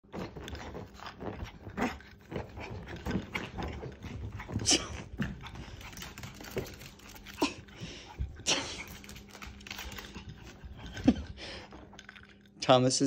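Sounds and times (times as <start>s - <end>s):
dog claws clicking on floor: 0.1s - 12.6s.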